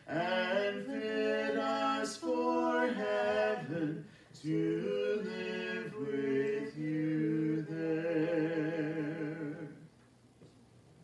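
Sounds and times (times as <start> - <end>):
man and woman singing in harmony: 0.0 - 9.9.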